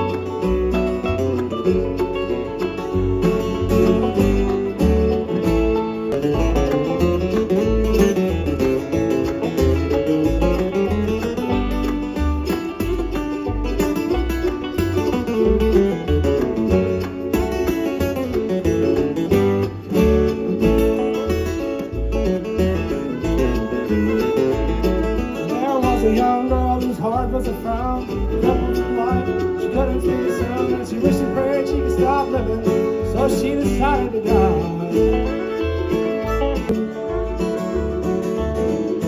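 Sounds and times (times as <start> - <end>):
bluegrass band playing: 0.0 - 39.0.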